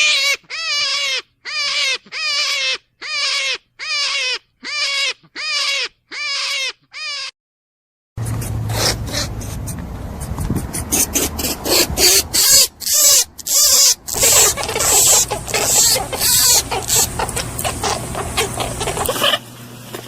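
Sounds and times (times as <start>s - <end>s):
rabbit making hissy noises: 0.0s - 7.3s, 8.3s - 19.5s.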